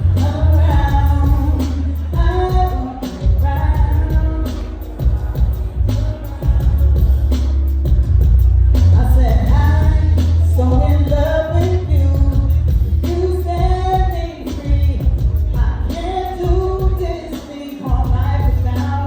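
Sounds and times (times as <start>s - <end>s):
live band with heavy bass: 0.0s - 19.0s.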